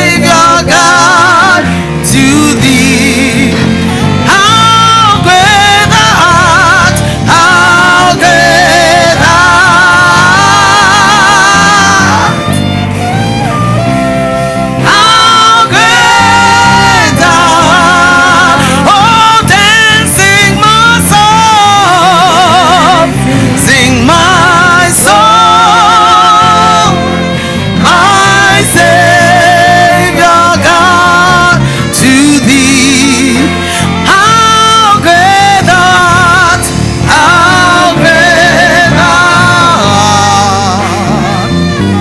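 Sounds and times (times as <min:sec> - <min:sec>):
band accompaniment: 0:00.0 - 0:42.0
person singing with vibrato: 0:00.0 - 0:42.0.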